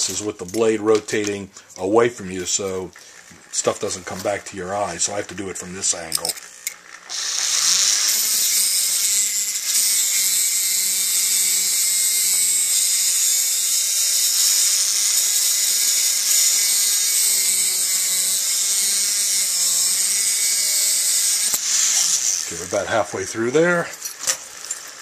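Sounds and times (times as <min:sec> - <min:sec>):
rotary tool cutoff wheel grinding metal: 0:00.0 - 0:25.0.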